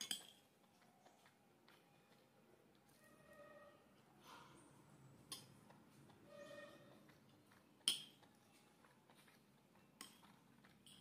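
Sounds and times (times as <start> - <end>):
faint eating sounds: 0.0 - 11.0.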